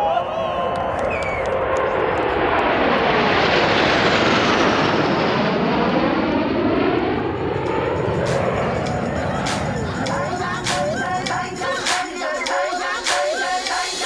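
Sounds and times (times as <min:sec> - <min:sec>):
aircraft flying past: 0:00.4 - 0:12.9.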